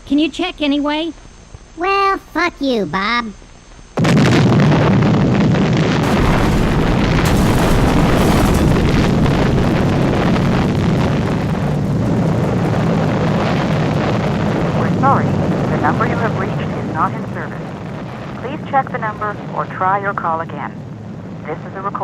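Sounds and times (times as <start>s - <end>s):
explosion rumble: 4.0s - 22.0s.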